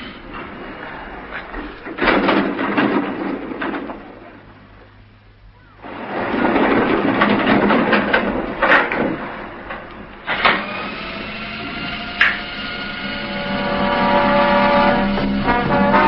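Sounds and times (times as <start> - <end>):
loud dense clattering: 0.0 - 16.0
sharp bangs: 0.0 - 16.0.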